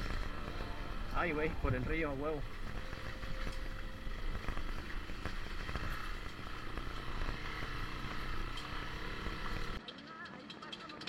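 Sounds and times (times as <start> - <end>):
road and wind rumble: 0.0 - 9.9
motorcycle engine running: 0.0 - 11.0.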